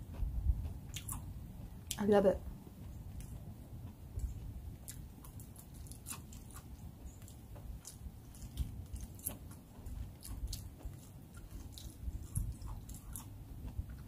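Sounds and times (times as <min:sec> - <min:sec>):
person chewing crunchy food: 0:00.0 - 0:02.0, 0:02.7 - 0:14.0.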